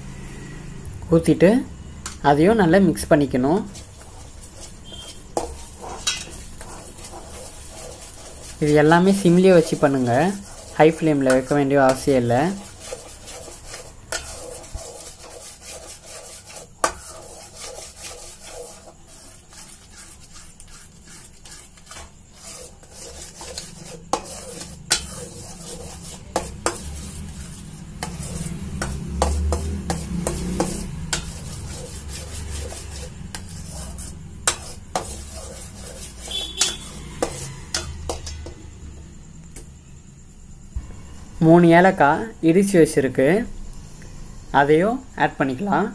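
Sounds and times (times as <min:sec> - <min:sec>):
spoon scraping metal pan: 0:01.4 - 0:38.6.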